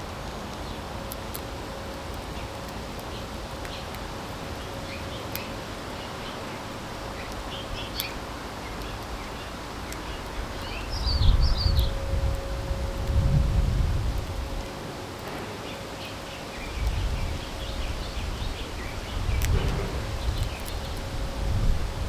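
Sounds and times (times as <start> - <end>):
faint steady hum: 0.0 - 22.0
songbirds chirping: 0.3 - 12.6, 15.4 - 21.4.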